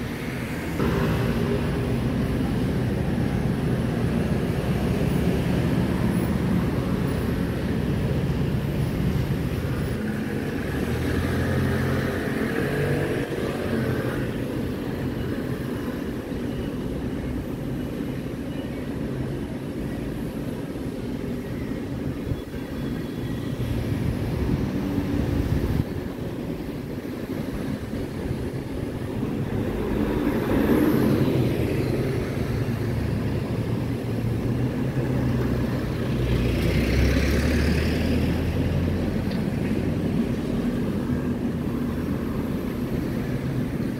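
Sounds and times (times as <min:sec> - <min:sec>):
vehicle engine humming: 0:00.0 - 0:43.9.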